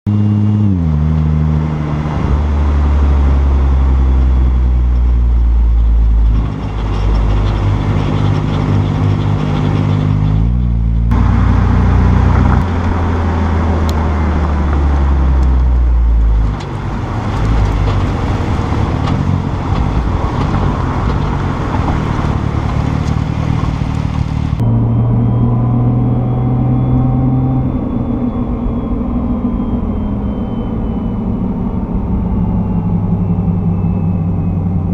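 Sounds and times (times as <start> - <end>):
car engine at low speed: 0.0 - 34.9.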